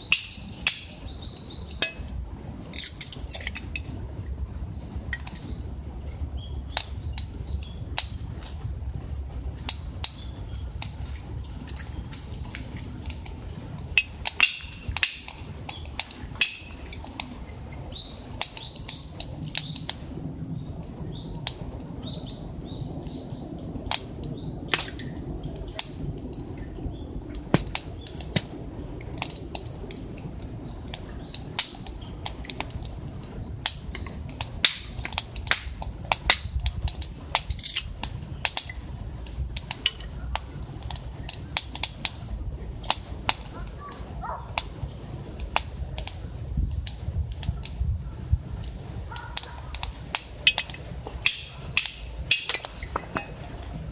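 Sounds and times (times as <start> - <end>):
fire low steady rush: 0.0 - 53.9
wood fire crackling and popping: 0.0 - 53.9.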